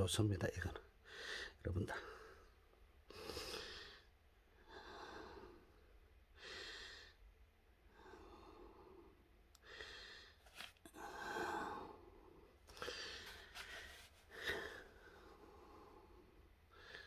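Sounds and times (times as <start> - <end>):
person breathing: 1.0 - 7.3, 7.9 - 17.0.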